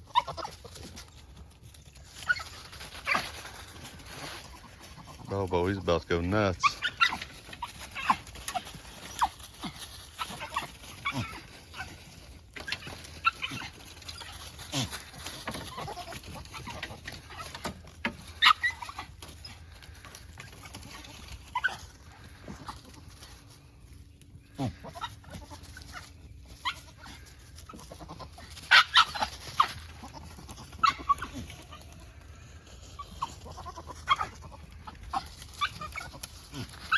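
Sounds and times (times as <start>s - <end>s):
farm animals calling: 0.0s - 36.9s.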